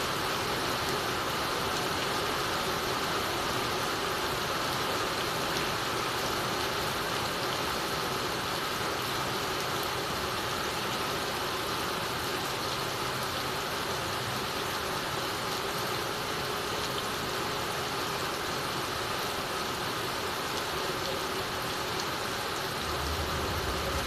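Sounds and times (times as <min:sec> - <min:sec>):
heavy rain on a tile roof: 0:00.0 - 0:24.0
water streaming off eaves: 0:00.0 - 0:24.0.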